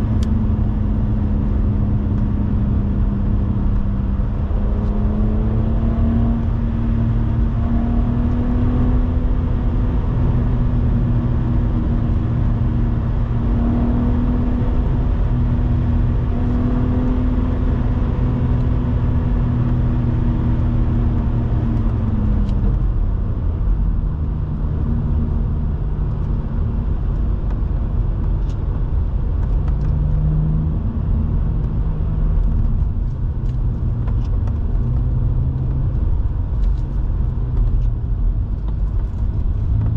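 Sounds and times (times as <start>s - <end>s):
car engine cruising: 0.0s - 39.9s
tyre and road noise: 0.0s - 39.9s.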